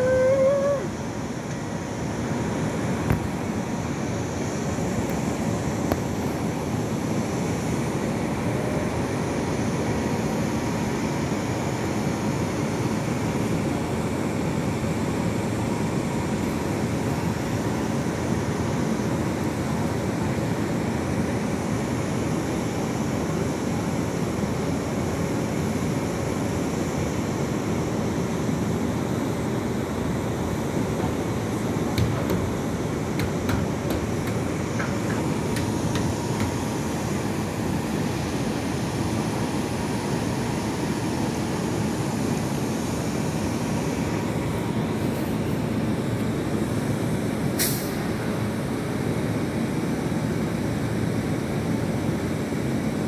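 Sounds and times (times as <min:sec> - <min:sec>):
train equipment humming and hissing: 0:00.0 - 0:53.0.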